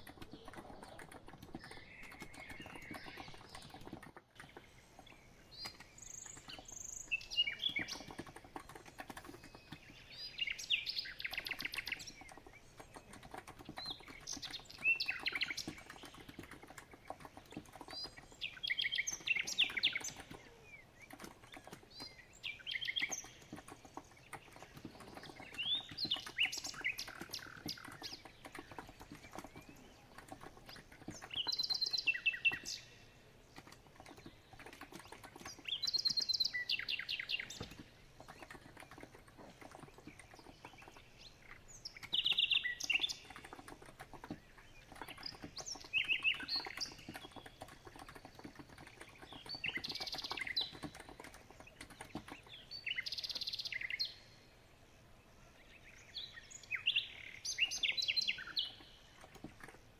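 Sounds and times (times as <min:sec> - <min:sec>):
typing on keyboard: 0:00.0 - 0:10.0, 0:11.2 - 0:32.8, 0:33.5 - 0:36.5, 0:37.4 - 0:52.7, 0:57.6 - 0:59.9
birds chirping and singing: 0:00.0 - 0:54.5, 0:55.4 - 0:59.9.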